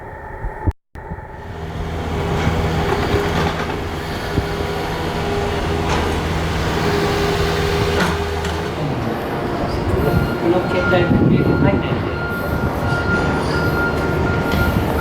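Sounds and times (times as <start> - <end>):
electric train hum: 1.0 - 15.0.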